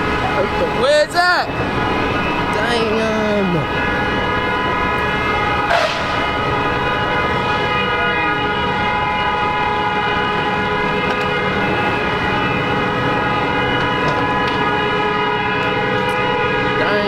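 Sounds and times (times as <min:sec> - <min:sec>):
constant rushing noise: 0:00.0 - 0:17.0
steady horn-like tone: 0:00.0 - 0:17.0.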